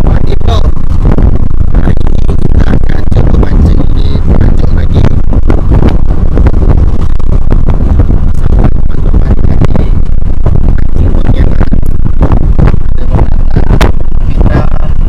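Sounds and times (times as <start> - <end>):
motor running: 0.0 - 15.0
wind buffeting microphone: 0.0 - 15.0.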